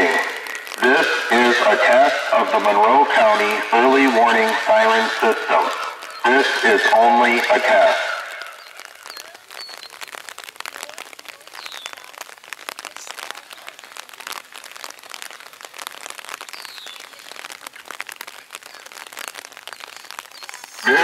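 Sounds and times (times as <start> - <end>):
rain pattering on umbrella: 0.0 - 21.0.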